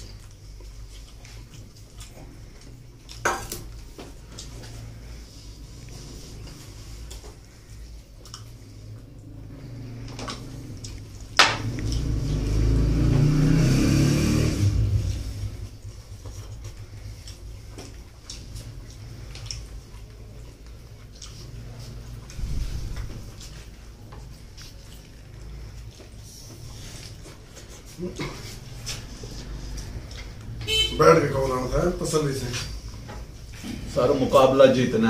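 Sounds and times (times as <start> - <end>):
chewing: 0.0 - 13.0, 15.0 - 30.6.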